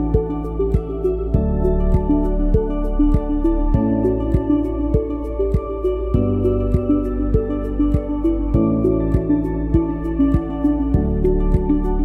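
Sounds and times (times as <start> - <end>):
gentle new-age music: 0.0 - 12.0.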